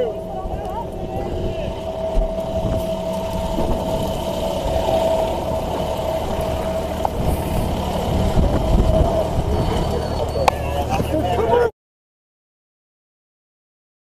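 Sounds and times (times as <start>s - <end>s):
vehicle engine running: 0.0s - 11.7s.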